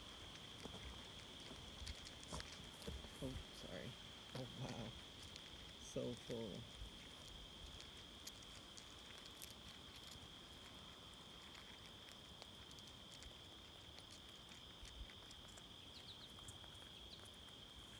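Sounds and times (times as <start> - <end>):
chipmunk chewing seeds: 0.0 - 17.9.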